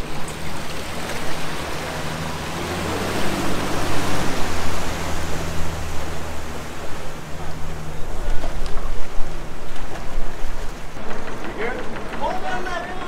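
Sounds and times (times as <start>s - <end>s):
motorboat engine humming: 0.0s - 13.0s
propeller churning water: 0.0s - 13.0s.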